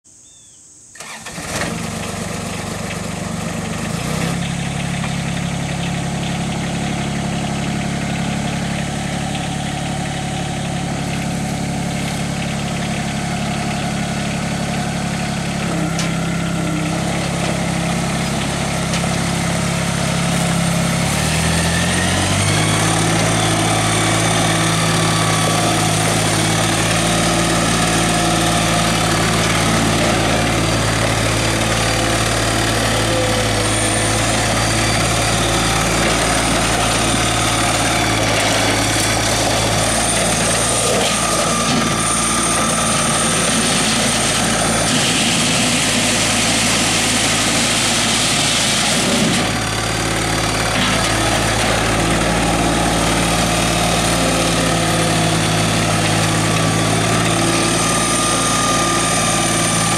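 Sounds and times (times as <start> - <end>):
tractor diesel engine: 0.8 - 59.9.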